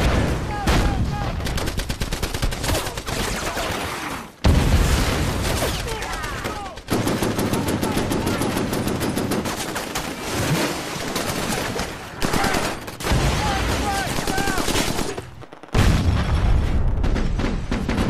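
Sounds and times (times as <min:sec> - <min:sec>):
rapid machine-gun and rifle fire: 0:00.0 - 0:15.5, 0:16.8 - 0:18.0.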